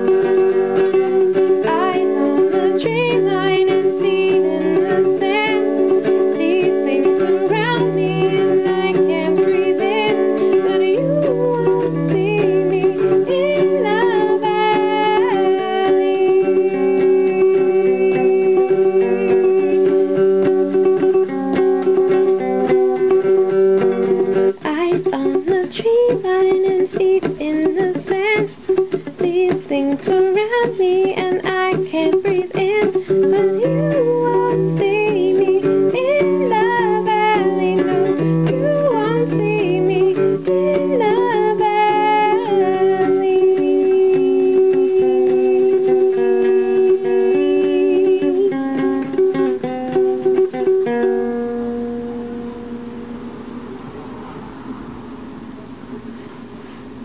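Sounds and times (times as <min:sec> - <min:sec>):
wavering melody line: 0:00.0 - 0:24.5, 0:31.7 - 0:53.9
plucked strings: 0:00.0 - 0:56.2.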